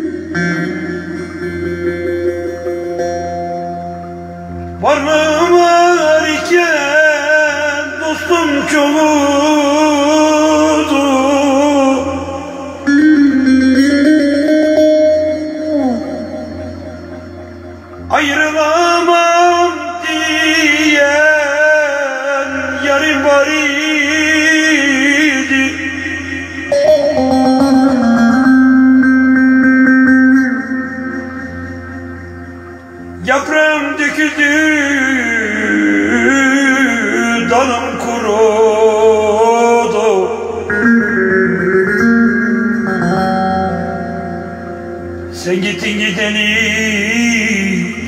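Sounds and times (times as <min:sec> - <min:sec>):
man singing long held notes: 0:00.0 - 0:03.0, 0:04.8 - 0:44.5, 0:45.2 - 0:48.0
plucked lute notes: 0:00.0 - 0:48.0.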